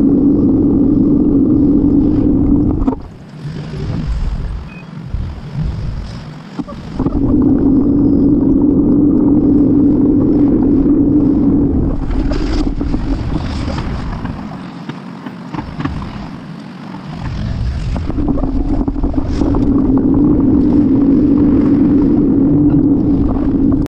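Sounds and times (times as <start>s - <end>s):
wind rushing over microphone: 0.0s - 14.8s, 15.5s - 23.9s
steady low drone: 0.0s - 23.9s.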